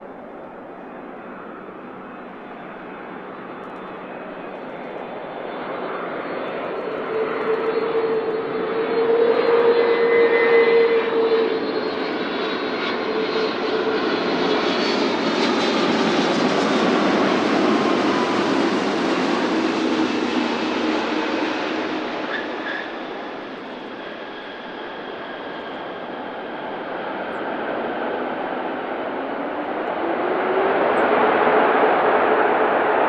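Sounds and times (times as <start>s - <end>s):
jet airliner roar passing: 0.0s - 33.0s.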